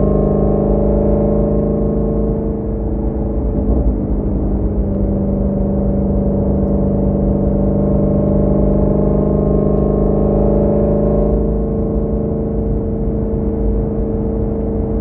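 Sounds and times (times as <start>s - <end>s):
car exhaust droning: 0.0s - 15.0s.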